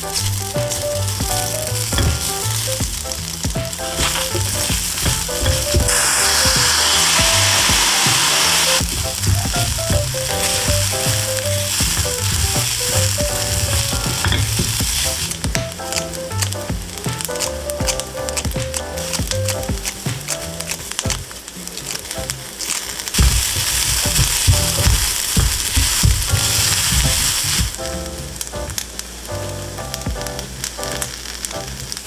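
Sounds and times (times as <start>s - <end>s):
sauce hitting pan sizzle: 0.0s - 21.2s, 22.2s - 27.8s
chopsticks stirring: 0.0s - 27.8s
light background music: 0.0s - 32.0s
rice and egg frying in a pan: 0.0s - 32.0s.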